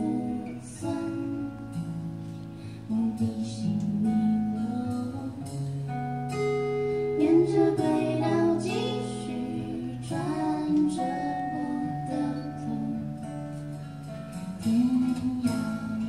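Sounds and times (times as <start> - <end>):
woman singing: 0.0 - 2.1, 2.9 - 5.8, 7.0 - 13.7, 14.3 - 16.0
acoustic guitar chords: 0.0 - 16.0.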